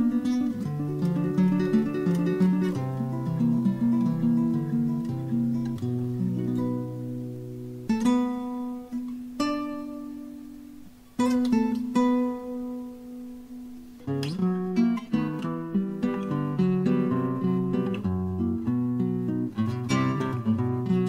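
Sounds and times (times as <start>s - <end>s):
guitar plucking and chords: 0.0s - 21.0s.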